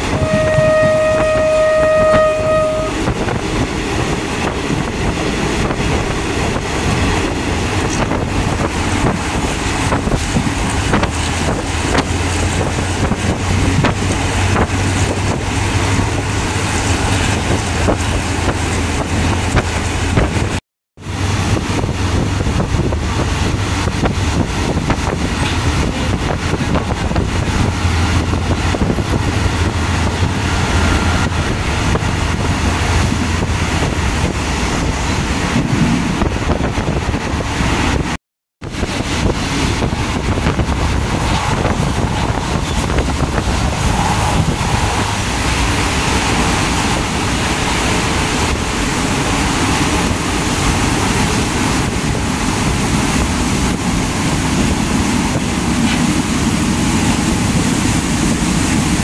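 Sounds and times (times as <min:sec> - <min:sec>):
train wind rush: 0:00.0 - 0:59.0.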